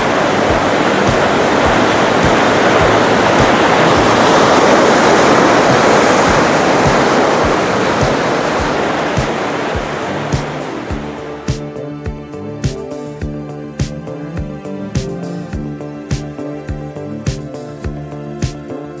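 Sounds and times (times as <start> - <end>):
whitewater rushing through rapids: 0.0 - 19.0.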